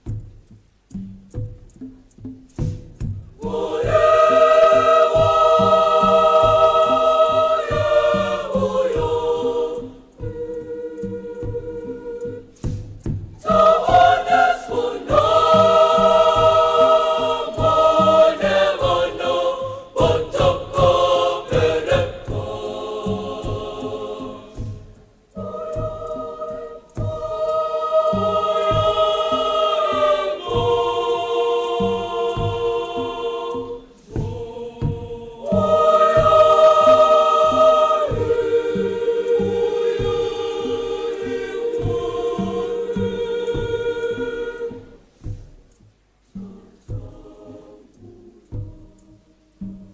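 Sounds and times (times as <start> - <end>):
girls' choir singing: 3.4 - 45.4, 46.3 - 49.8.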